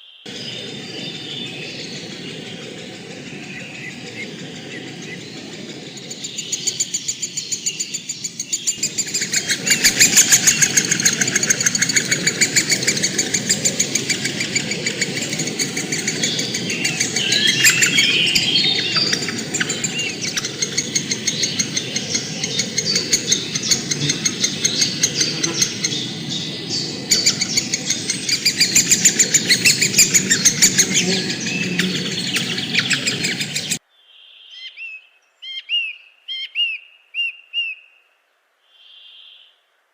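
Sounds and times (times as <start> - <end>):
birds chirping in chorus: 0.0 - 38.0.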